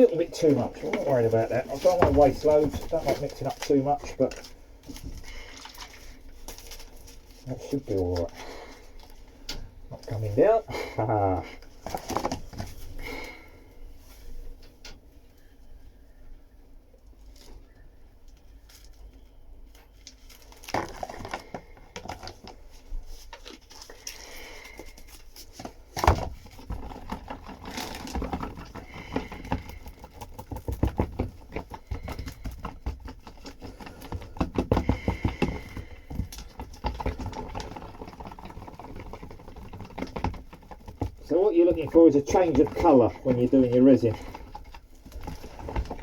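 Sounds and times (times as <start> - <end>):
resin stirring scraping and clicking: 0.0 - 13.2, 20.1 - 46.0.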